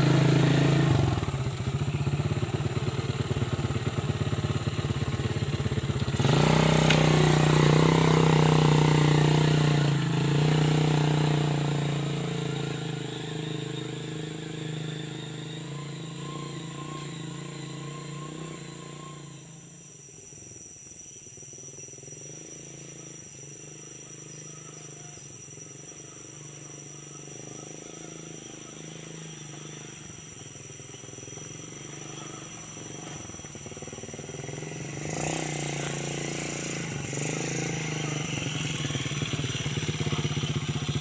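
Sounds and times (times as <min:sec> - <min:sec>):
high-pitched insect drone: 0:00.0 - 0:41.0
small motorcycle engine: 0:00.0 - 0:41.0.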